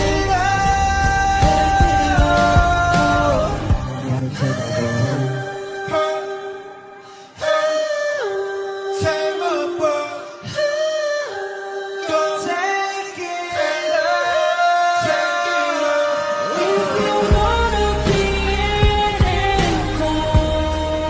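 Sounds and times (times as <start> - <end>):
men singing a cappella harmony: 0.0 - 21.0.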